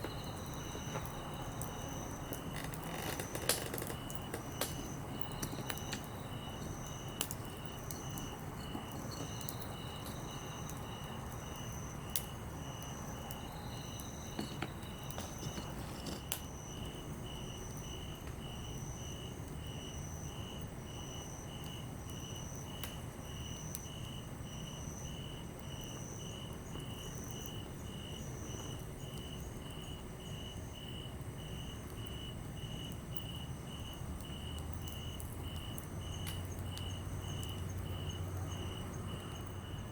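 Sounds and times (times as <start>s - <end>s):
insects chirping: 0.0s - 39.9s
wood fire crackling: 0.0s - 39.9s.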